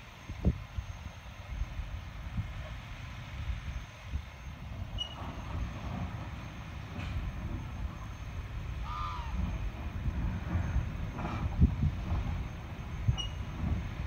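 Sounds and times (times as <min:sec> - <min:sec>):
wind buffeting microphone: 0:00.3 - 0:14.0.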